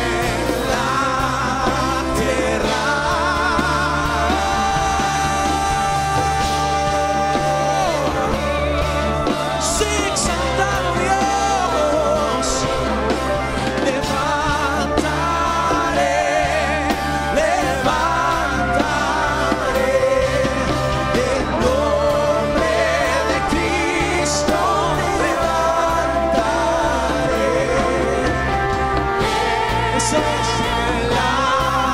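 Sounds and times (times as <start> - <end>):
people singing worship song: 0.0 - 31.9
worship band playing: 0.0 - 31.9.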